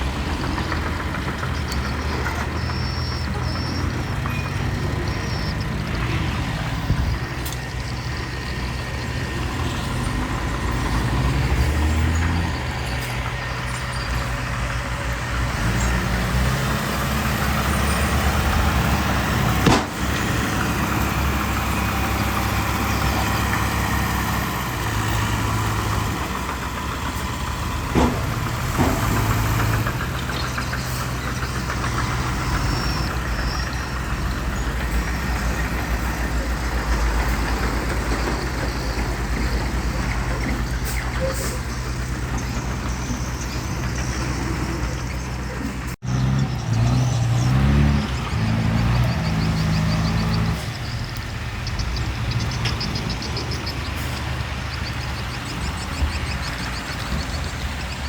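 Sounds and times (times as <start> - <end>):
diesel engines of earthmoving machinery: 0.0 - 58.0.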